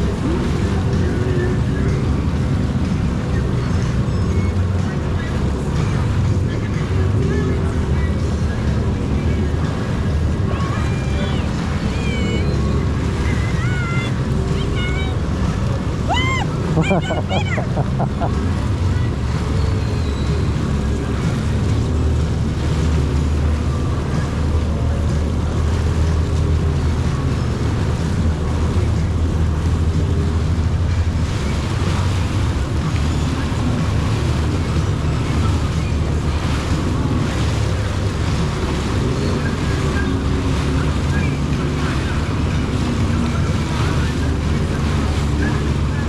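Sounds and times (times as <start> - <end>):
jet ski engine running: 0.0 - 46.0
water rushing past hull: 0.0 - 46.0.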